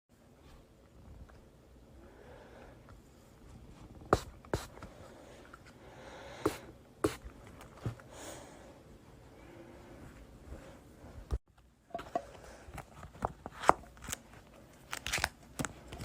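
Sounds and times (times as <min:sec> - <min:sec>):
faint room noise: 0:00.1 - 0:16.0.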